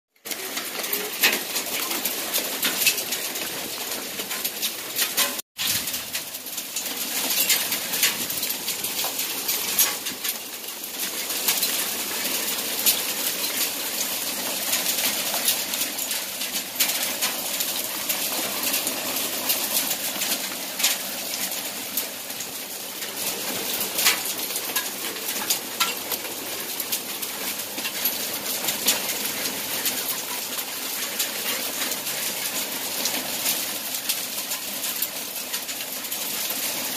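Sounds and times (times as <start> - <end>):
hail ticking: 0.2 - 36.9.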